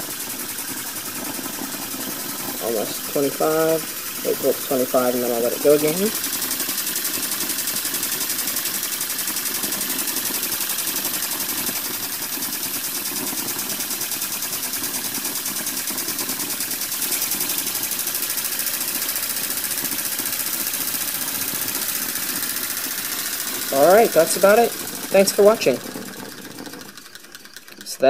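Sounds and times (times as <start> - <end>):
steam engine chuffing: 0.0 - 28.0.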